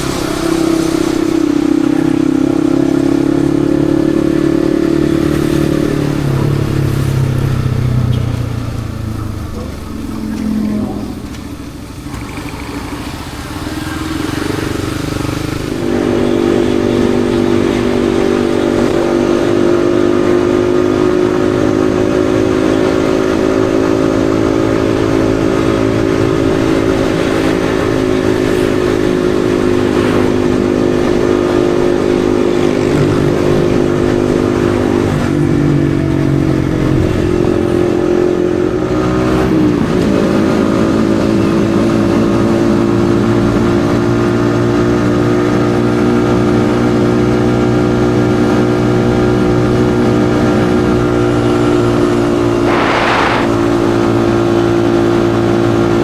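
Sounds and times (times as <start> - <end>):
motorcycle engine running: 0.0 - 39.0, 39.6 - 56.0.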